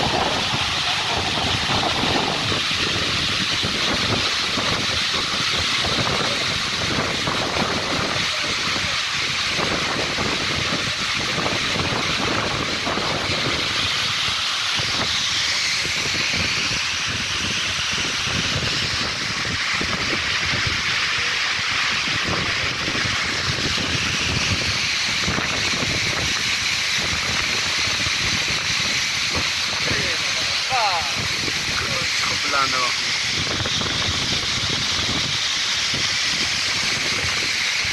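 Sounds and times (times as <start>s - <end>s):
wind buffeting microphone: 0.0s - 8.9s, 9.5s - 14.1s, 15.8s - 37.9s
waterfall rushing: 0.0s - 37.9s.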